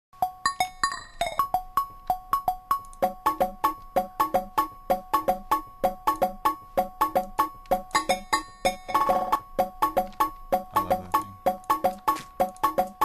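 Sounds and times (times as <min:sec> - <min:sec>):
plucked synthesizer notes: 0:02.5 - 0:13.0.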